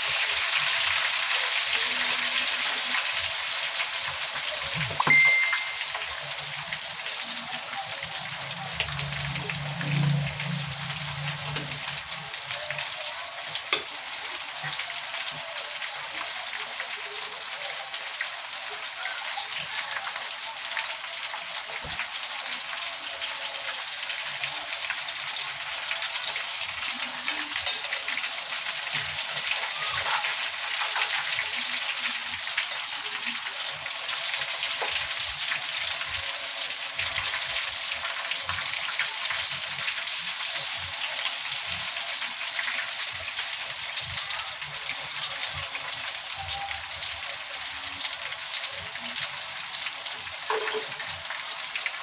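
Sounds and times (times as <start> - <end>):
chicken frying in oil: 0.0 - 52.0.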